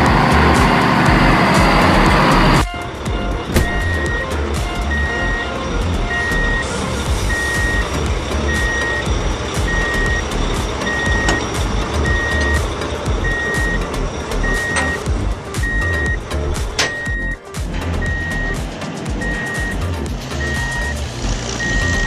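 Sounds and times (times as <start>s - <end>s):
low rumble: 0.0s - 22.0s
reversing alarm beeping: 3.6s - 18.6s, 19.2s - 22.0s.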